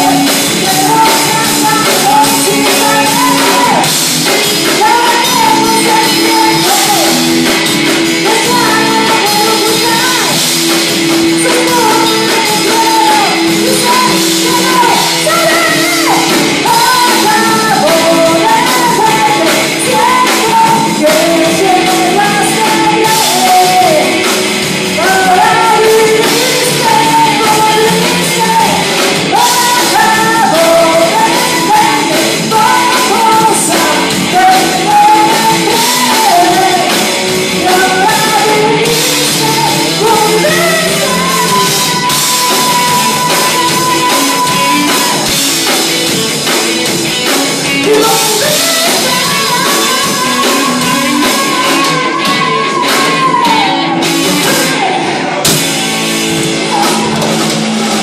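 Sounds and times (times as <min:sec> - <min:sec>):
drums: 0:00.0 - 0:58.0
electric guitars: 0:00.0 - 0:58.0
singer's vocal line: 0:00.0 - 0:58.0.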